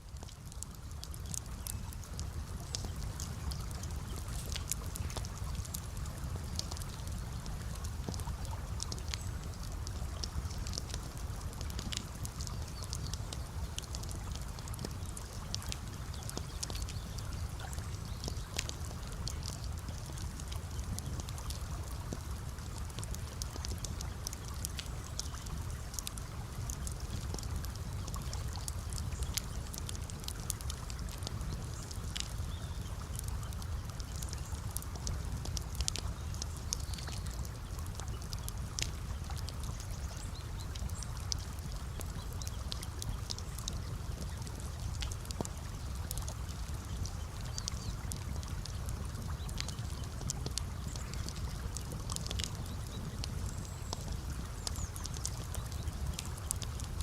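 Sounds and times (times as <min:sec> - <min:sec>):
campfire crackling and popping: 0:00.0 - 0:57.0
water trickling: 0:00.1 - 0:56.9.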